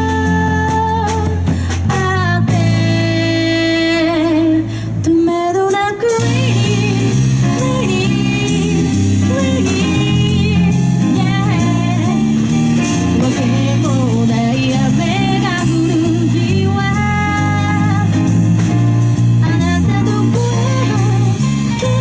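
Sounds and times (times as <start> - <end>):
woman singing: 0.0 - 18.3, 19.4 - 22.0
live band playing: 0.0 - 22.0.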